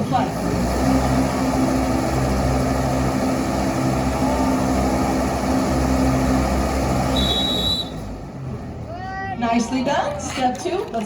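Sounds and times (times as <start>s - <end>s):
large fan motor hum: 0.0s - 10.9s.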